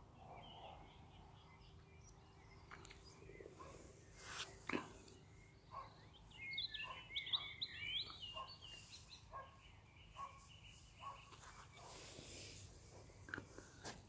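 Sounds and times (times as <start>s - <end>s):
bird chirping: 0.0s - 13.5s.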